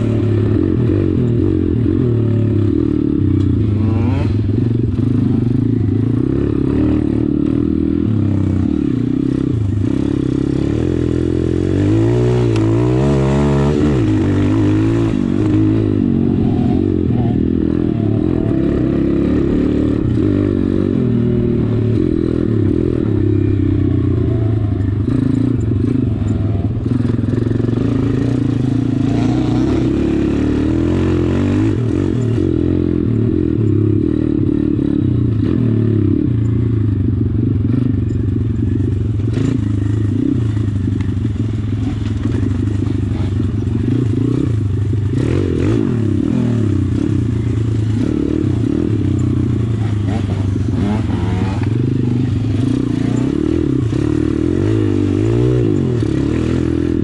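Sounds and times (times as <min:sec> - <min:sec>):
off-road motorcycle revving: 0:00.0 - 0:57.0.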